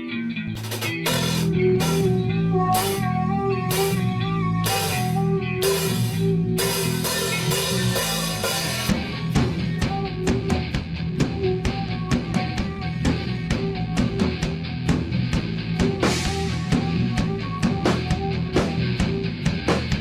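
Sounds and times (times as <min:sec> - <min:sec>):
electric guitar: 0:00.0 - 0:20.0
rock band playing: 0:00.1 - 0:20.0
drum kit: 0:00.6 - 0:20.0.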